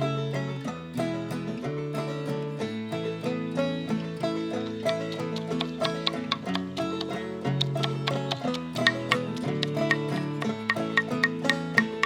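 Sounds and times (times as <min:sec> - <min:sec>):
plucked strings playing bright tune: 0:00.0 - 0:12.0.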